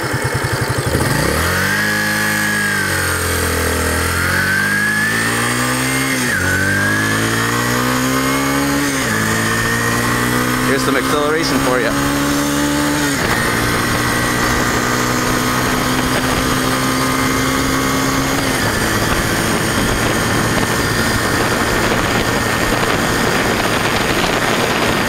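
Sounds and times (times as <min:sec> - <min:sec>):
motorcycle engine running: 0:00.0 - 0:25.0
wind rushing over microphone: 0:00.9 - 0:25.0.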